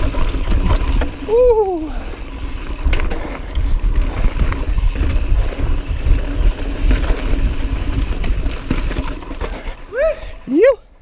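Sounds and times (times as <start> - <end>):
tyre noise on dirt: 0.0 - 10.5
bike clicks and rattles: 0.0 - 10.6.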